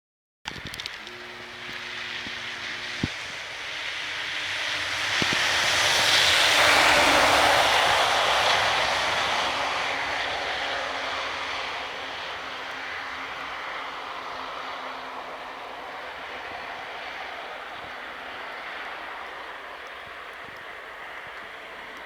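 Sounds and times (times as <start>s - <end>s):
vehicle driving past: 1.0s - 22.0s.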